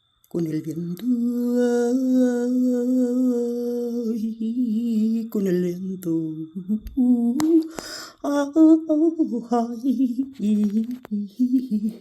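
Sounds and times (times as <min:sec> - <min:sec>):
woman humming and singing: 0:00.3 - 0:12.0.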